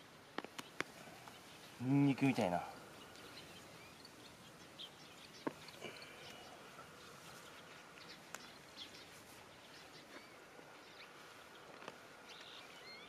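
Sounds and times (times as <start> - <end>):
faint rural ambience: 0.0 - 13.0.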